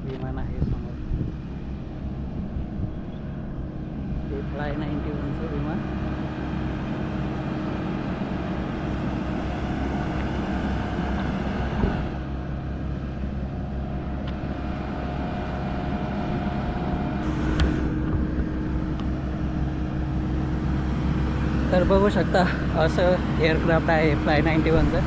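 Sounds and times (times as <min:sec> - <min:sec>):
aircraft machine hum and rumble: 0:00.0 - 0:25.0.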